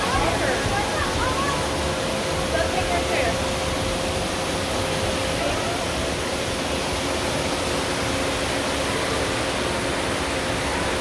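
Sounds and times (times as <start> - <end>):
faint steady hum: 0.0 - 11.0
rushing falling water: 0.0 - 11.0.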